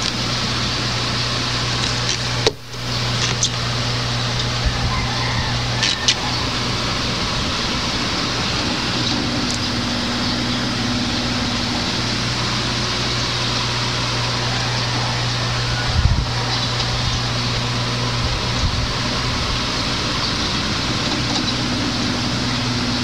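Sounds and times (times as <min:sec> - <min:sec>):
mechanical whir with hum: 0:00.0 - 0:23.0.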